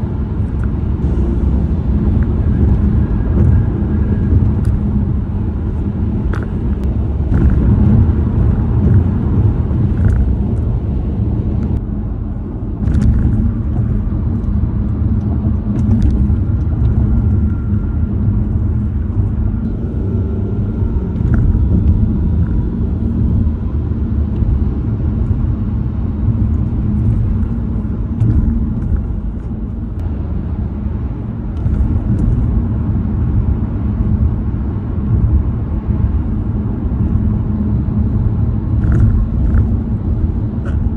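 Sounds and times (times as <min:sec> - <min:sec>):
tyres rumbling on pavement: 0:00.0 - 0:40.9.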